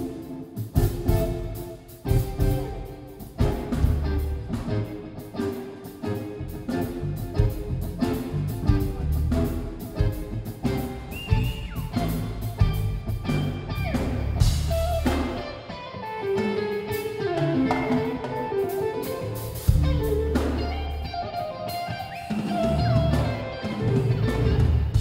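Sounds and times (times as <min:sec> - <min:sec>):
bass guitar: 0:00.0 - 0:25.0
drum kit: 0:00.0 - 0:25.0
electric guitar lead line: 0:00.0 - 0:25.0.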